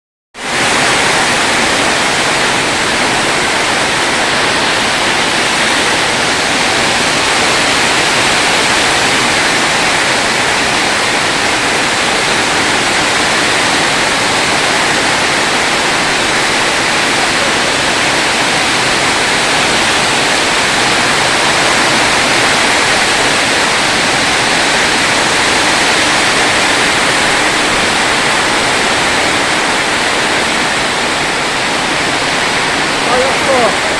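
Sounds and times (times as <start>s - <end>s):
water rushing: 0.4s - 33.9s.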